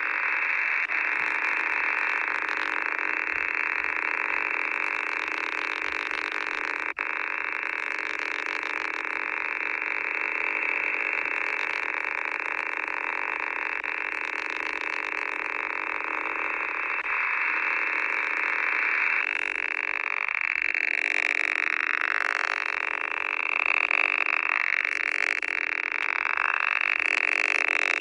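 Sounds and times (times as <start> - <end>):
faint steady tones: 0.0 - 28.0
rough radio buzz: 0.0 - 28.0.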